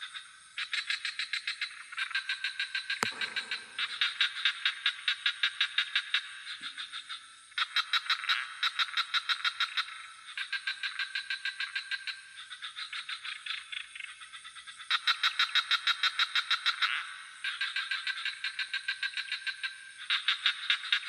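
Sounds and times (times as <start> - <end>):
frogs croaking: 0.0 - 21.0.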